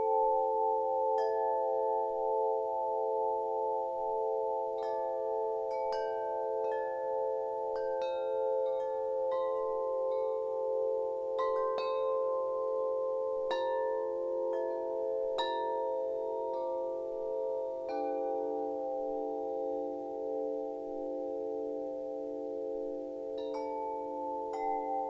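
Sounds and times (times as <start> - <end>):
wind chimes ringing: 0.0 - 25.0.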